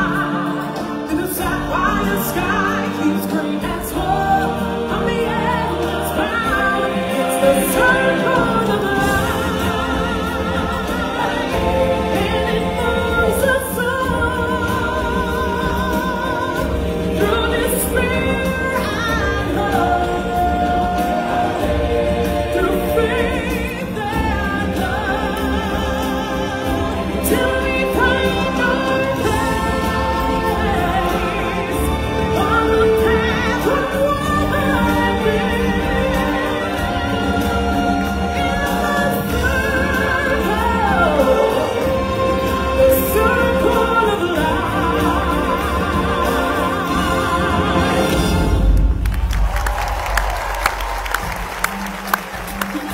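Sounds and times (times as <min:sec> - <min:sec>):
woman singing with vibrato: 0:00.0 - 0:48.8
choir singing: 0:00.0 - 0:48.9
instrumental backing music: 0:00.0 - 0:52.9.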